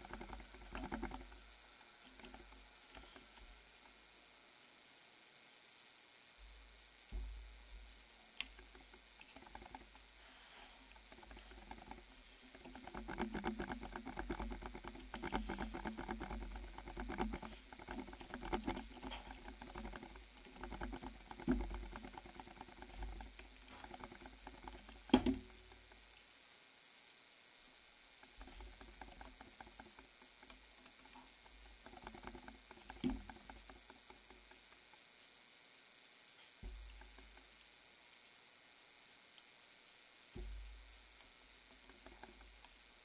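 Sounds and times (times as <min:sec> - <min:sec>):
rapid clicking: 0:00.0 - 0:43.0.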